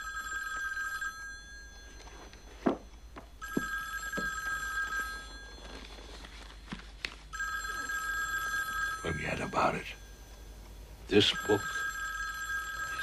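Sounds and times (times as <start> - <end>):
telephone ringing: 0.0 - 6.1, 7.3 - 13.0.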